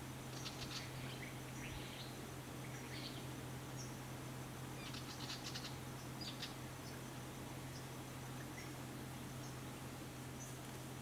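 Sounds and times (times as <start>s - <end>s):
low steady hum: 0.0s - 11.0s
small birds chipping: 0.1s - 4.1s, 4.7s - 11.0s.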